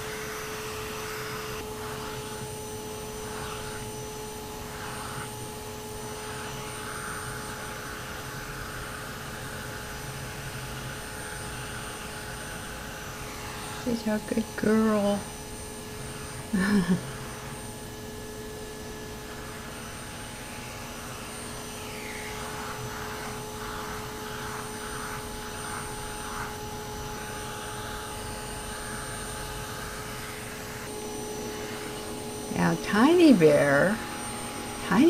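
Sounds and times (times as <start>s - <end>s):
vacuum cleaner whine: 0.0s - 35.0s
rake rasping through cat fur: 1.2s - 15.2s, 18.6s - 35.0s.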